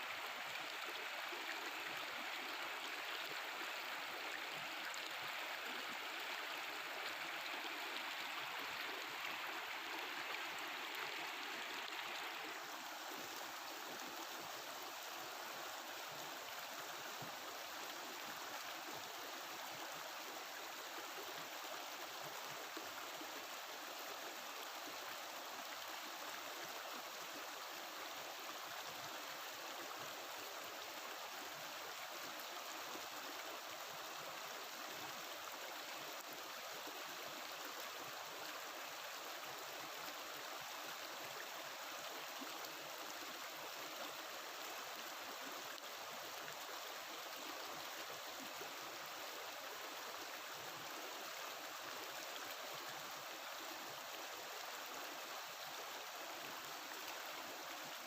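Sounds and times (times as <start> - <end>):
stream burbling over rocks: 0.0 - 58.0.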